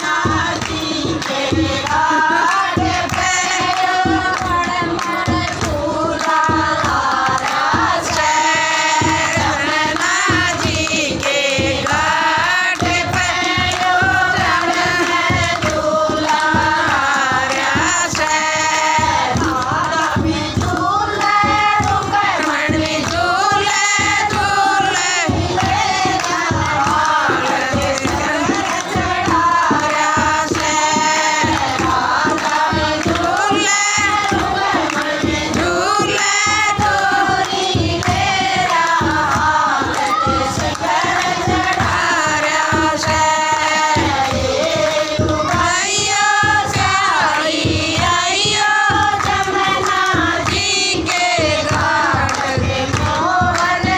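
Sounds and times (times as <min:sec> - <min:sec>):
hand clapping: 0:00.0 - 0:53.9
women singing together: 0:00.0 - 0:53.9.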